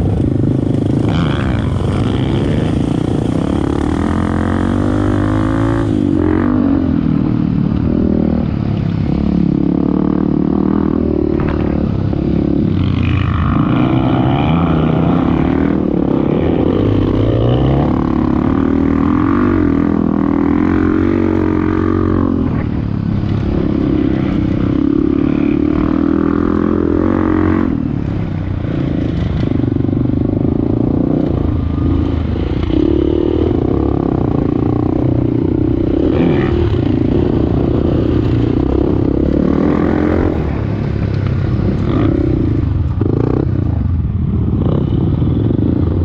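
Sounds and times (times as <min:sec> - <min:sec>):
off-road motorcycle engine: 0:00.0 - 0:46.0.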